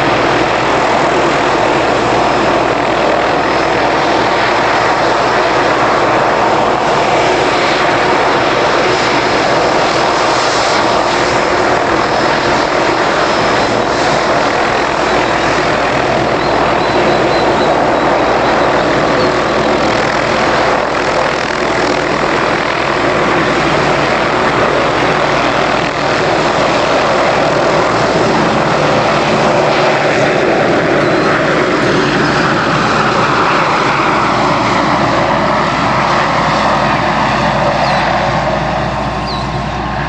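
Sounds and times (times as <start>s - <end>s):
helicopter turbine and rotor: 0.0s - 40.0s.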